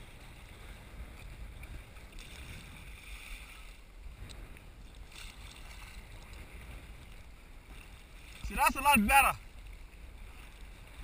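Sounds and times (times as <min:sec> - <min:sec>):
water splashing against kayak: 0:00.0 - 0:11.0
wind rumbling on microphone: 0:00.0 - 0:11.0.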